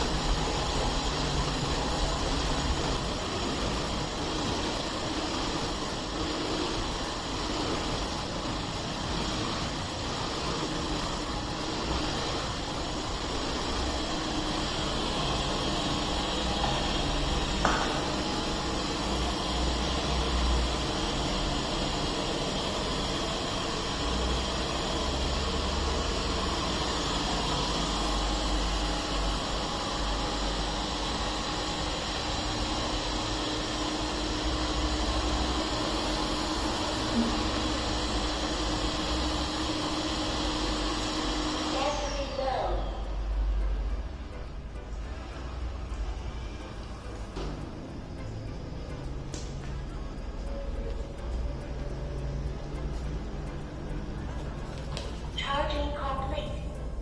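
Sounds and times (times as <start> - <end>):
robot vacuum running: 0.0 - 49.2.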